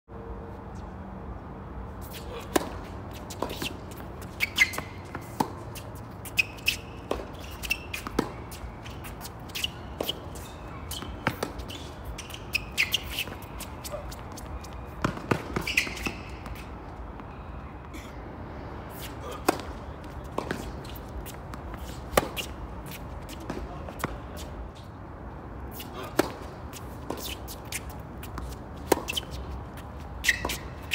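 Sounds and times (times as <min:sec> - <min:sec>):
shoes squeaking on court: 0:01.9 - 0:18.2, 0:18.8 - 0:30.9
racket hitting tennis ball: 0:02.0 - 0:16.7, 0:18.9 - 0:24.5, 0:25.7 - 0:30.9
tennis ball bouncing: 0:02.0 - 0:17.3, 0:18.9 - 0:24.5, 0:25.7 - 0:30.9.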